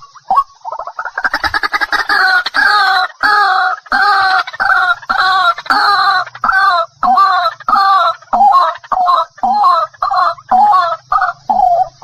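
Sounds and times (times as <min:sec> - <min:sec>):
waterhen harsh calls: 0:00.3 - 0:12.0.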